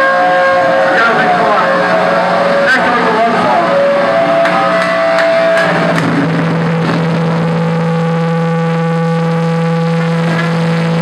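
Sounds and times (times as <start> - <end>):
distorted electric guitar drone: 0.0 - 11.0
room noise: 0.0 - 11.0.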